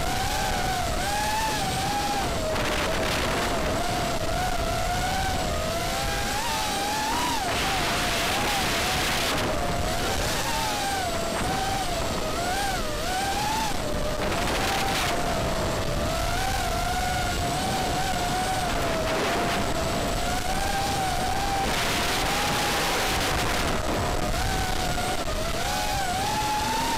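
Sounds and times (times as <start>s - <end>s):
drone propellers whining: 0.0s - 26.9s
wind rush: 0.0s - 26.9s.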